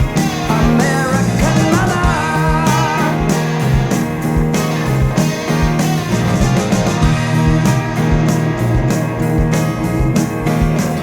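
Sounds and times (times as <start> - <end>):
psychedelic rock band playing: 0.0 - 11.0.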